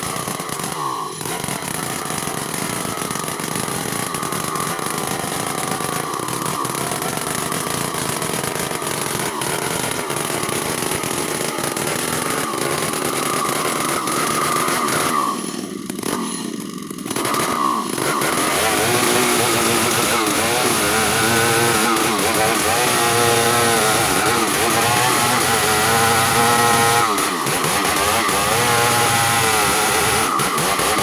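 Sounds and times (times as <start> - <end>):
chainsaw cutting log: 0.0 - 31.0.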